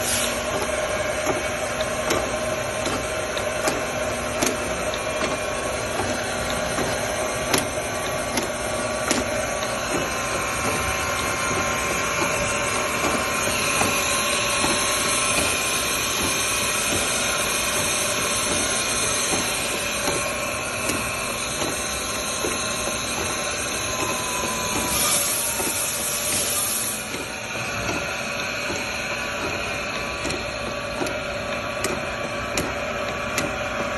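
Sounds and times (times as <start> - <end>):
surface grinder whirring: 0.0 - 33.0.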